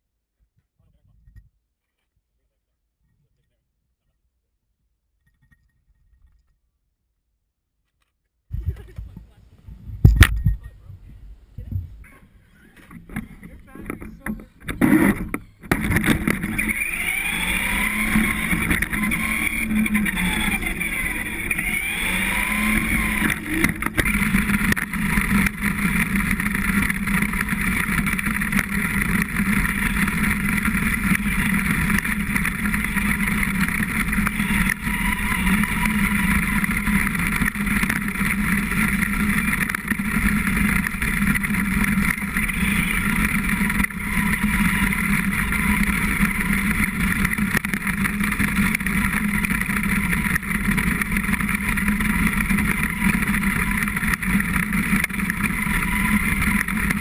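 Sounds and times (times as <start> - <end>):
tyres on dirt and gravel: 8.5 - 57.0
electric motor and gears whining: 9.9 - 57.0.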